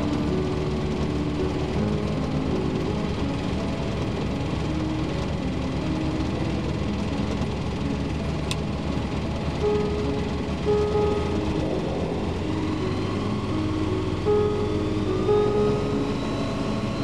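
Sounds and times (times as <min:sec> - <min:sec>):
aircraft engine running: 0:00.0 - 0:17.0.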